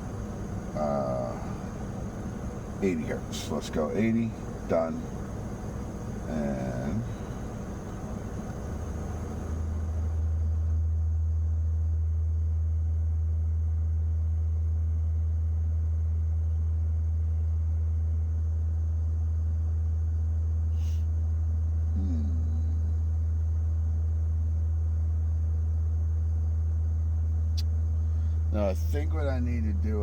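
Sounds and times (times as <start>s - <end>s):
low sine test tone: 0.0s - 30.0s.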